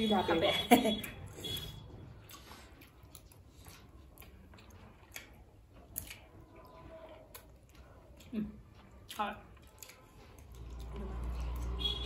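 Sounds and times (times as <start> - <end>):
people chewing and eating: 0.0 - 12.0.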